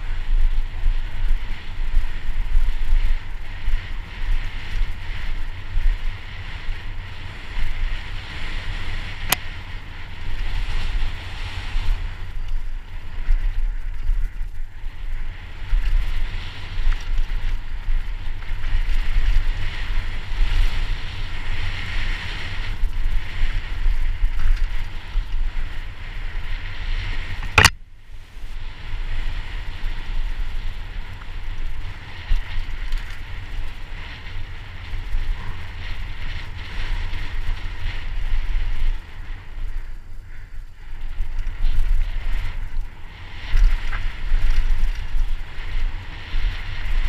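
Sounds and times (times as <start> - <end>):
bike rattling: 0.0 - 47.0
wind buffeting on microphone: 0.0 - 47.0.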